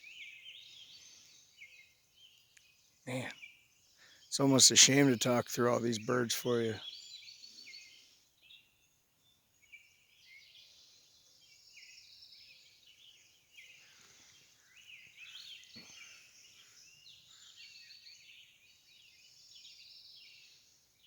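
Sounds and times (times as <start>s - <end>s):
songbirds chorus: 0.0s - 21.0s.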